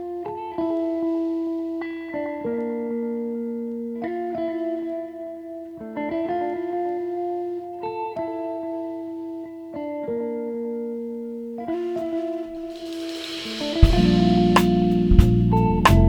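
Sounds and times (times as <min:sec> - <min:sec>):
guitar chords: 0:00.0 - 0:16.0.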